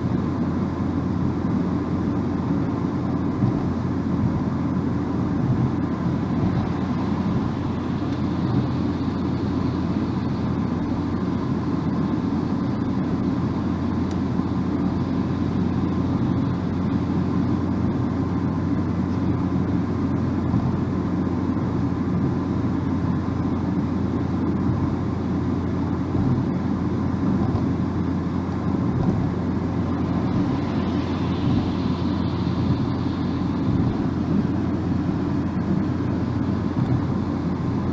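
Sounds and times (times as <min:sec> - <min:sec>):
car road and engine drone: 0:00.0 - 0:37.9.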